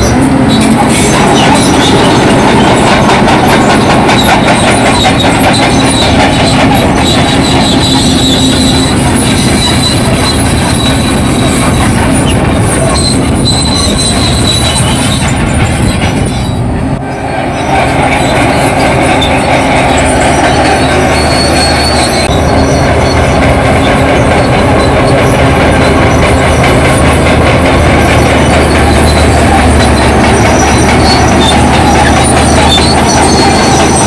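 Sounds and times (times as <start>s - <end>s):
bulldozer engine under load: 0.0s - 34.0s
high squeal from tracks: 0.0s - 34.0s
steel tracks clanking: 0.0s - 34.0s.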